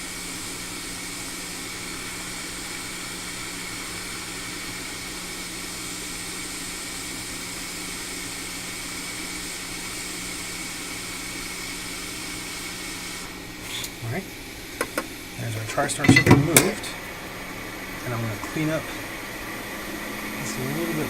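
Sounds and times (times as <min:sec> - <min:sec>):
hot air station hissing: 0:00.0 - 0:21.0.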